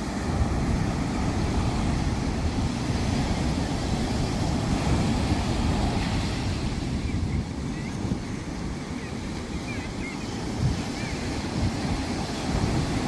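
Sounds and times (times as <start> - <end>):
waves washing onto beach: 0.0 - 13.0
wind rumbling on microphone: 0.0 - 13.0.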